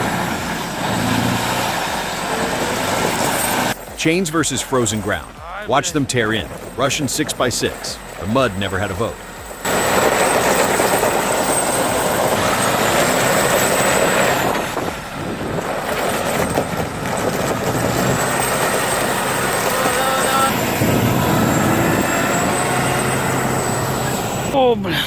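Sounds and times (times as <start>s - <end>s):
drivetrain and wheels rushing: 0.0s - 25.0s
truck engine under heavy load: 0.0s - 25.0s.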